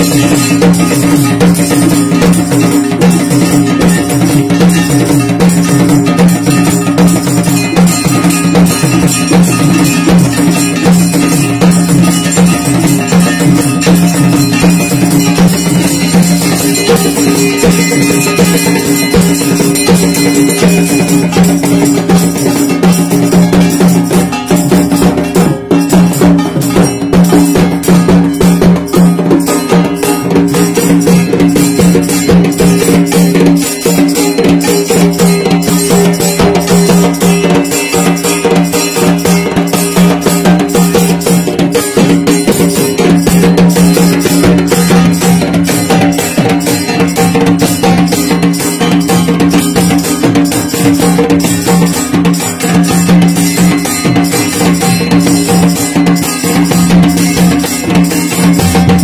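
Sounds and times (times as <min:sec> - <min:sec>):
dhol drum: 0:00.0 - 0:59.0
metal cymbals struck rapidly: 0:00.0 - 0:59.0.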